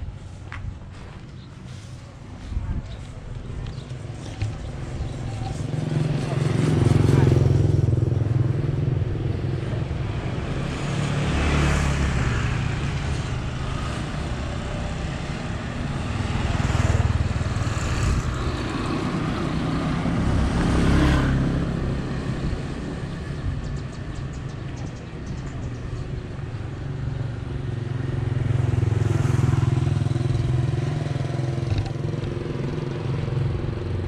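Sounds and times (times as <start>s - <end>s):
scooters and cars passing: 0.0s - 34.0s.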